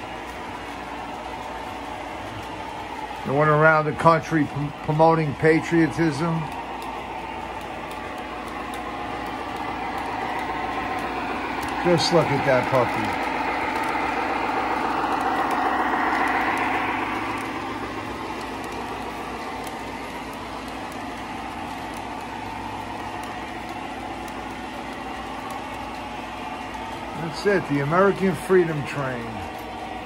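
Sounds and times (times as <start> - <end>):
model train whirring and rumbling: 0.0 - 30.0.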